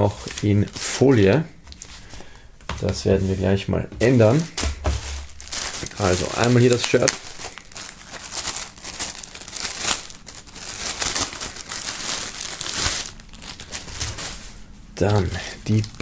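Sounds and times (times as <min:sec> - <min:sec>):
plastic bag crinkling: 0:00.0 - 0:02.2, 0:04.2 - 0:16.0.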